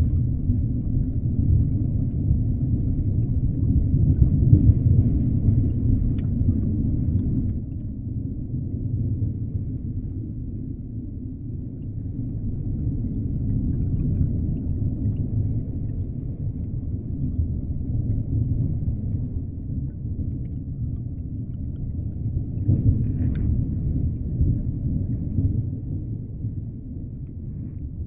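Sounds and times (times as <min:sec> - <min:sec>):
low underwater rumble: 0:00.0 - 0:28.0.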